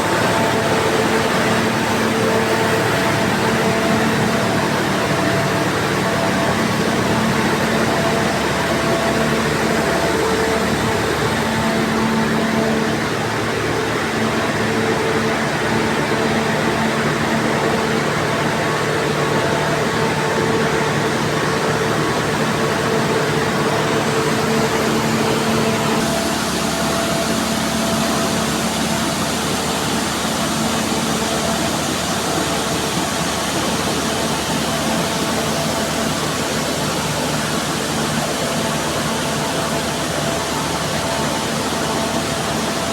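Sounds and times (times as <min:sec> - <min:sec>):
heavy machinery drone: 0:00.0 - 0:42.9.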